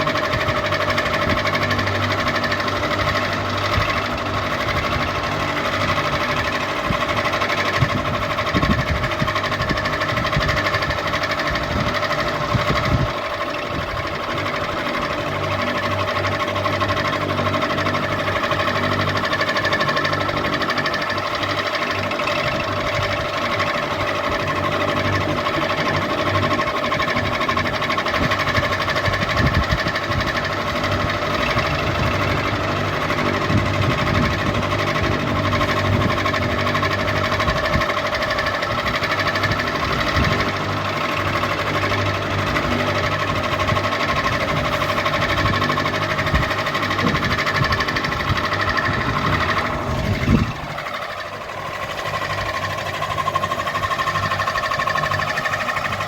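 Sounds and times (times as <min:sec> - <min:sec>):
ceiling fan motor hum: 0:00.0 - 0:56.0
mechanical rattle: 0:00.0 - 0:56.0.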